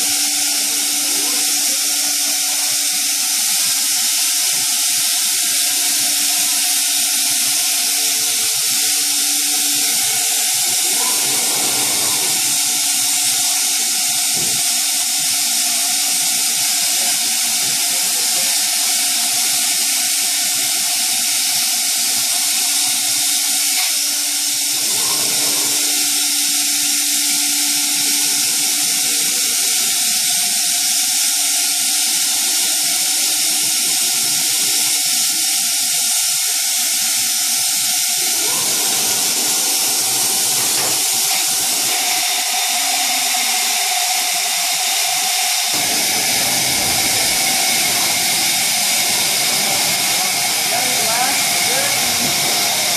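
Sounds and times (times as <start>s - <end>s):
cnc router running: 0.0s - 52.9s.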